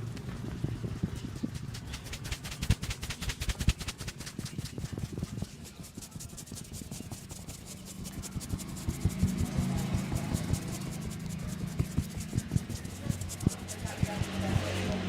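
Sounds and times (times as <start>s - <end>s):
hands rubbing hair and scalp: 0.1s - 15.0s.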